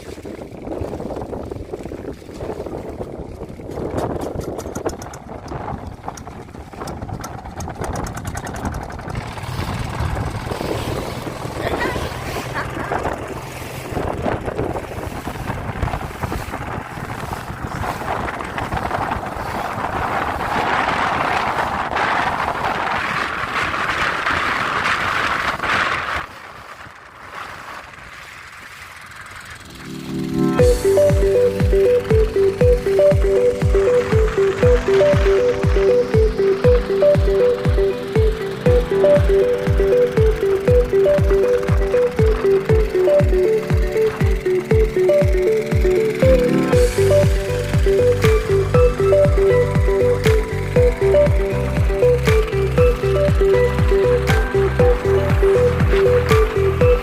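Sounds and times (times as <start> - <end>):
small boat motor running: 0.0 - 57.0
waves splashing: 0.0 - 57.0
wind and water rushing: 0.0 - 57.0.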